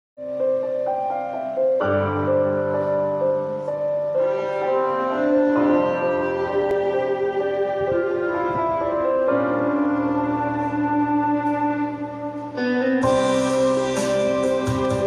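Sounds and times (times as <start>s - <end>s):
electronic keyboard music: 0.2s - 15.0s.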